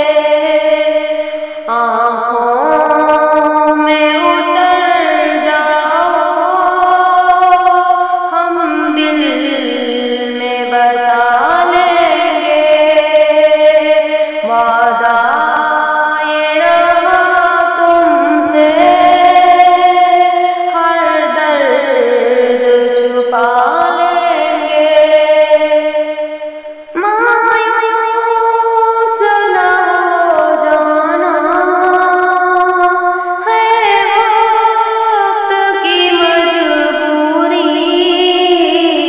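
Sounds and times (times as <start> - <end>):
woman singing: 0.0 - 26.2, 26.8 - 39.0.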